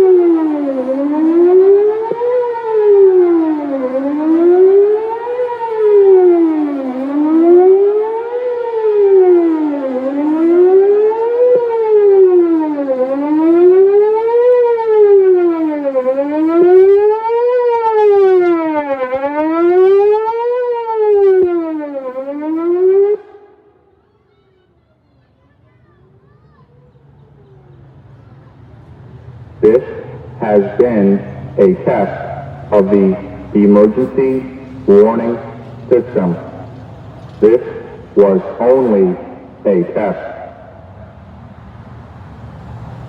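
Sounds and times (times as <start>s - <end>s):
warning siren wailing: 0.0s - 24.0s, 29.2s - 41.6s.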